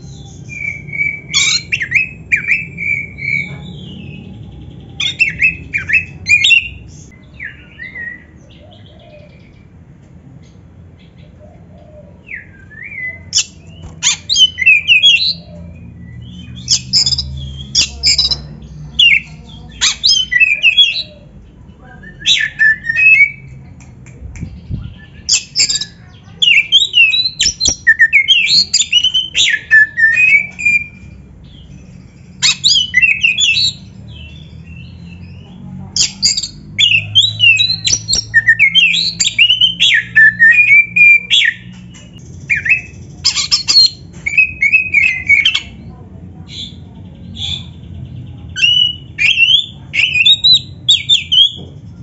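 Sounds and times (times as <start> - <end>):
bird singing: 0.0 - 23.6, 24.7 - 52.0.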